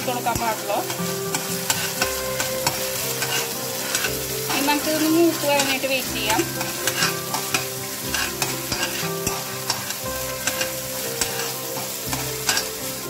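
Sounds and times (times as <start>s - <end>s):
ginger and garlic sizzling in oil: 0.0s - 13.0s
metal spoon scraping a pan: 0.0s - 13.0s.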